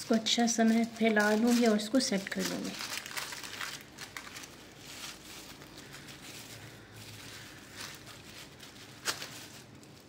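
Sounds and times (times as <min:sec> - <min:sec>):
plastic glove and paper rustling: 0:00.0 - 0:10.0.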